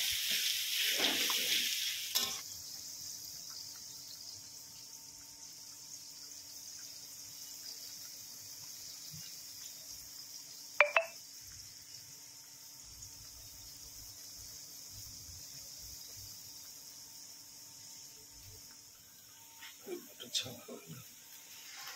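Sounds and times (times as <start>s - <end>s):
meat sizzling in a pan: 0.0s - 21.9s.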